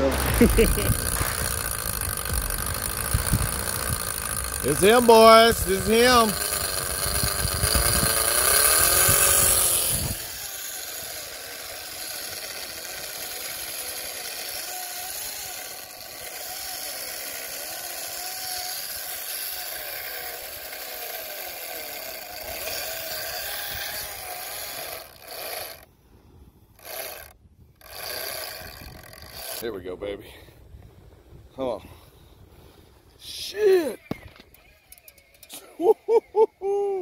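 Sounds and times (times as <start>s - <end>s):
fishing reel whirring: 0.0s - 25.9s, 26.7s - 29.6s, 33.9s - 35.9s.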